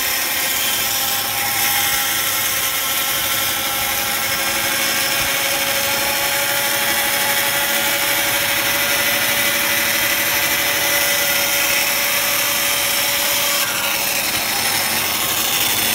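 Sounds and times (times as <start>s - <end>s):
bandsaw cutting wood: 0.0s - 15.9s.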